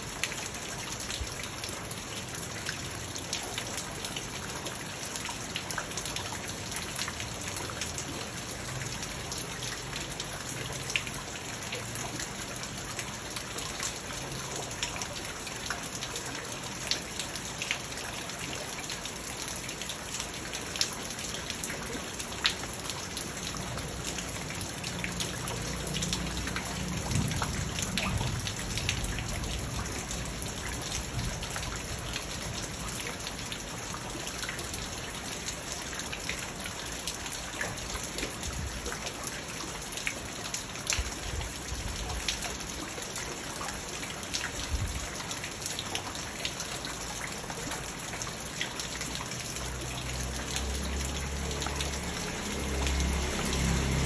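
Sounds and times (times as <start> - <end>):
rain falling on pond water: 0.0 - 54.0.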